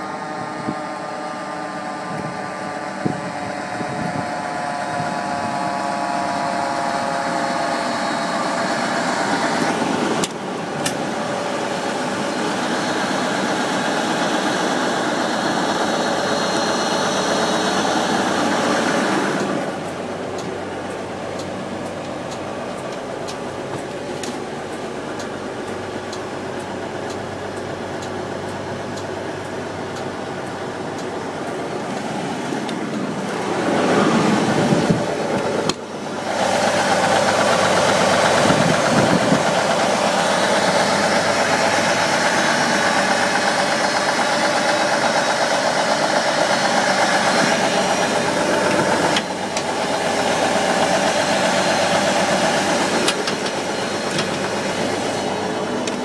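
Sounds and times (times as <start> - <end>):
fire truck engine running: 0.0 - 56.0.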